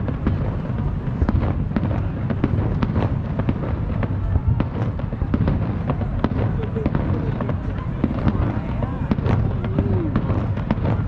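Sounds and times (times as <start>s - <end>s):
continuous low rumble: 0.0s - 11.0s
fireworks bangs and crackles: 0.0s - 11.0s.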